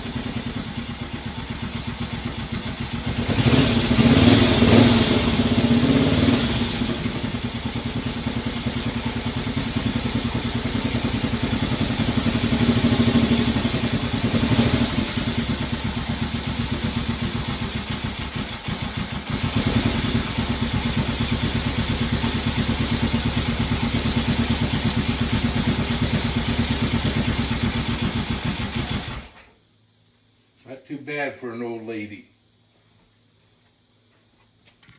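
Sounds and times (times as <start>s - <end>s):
motorcycle engine idling: 0.0s - 29.4s.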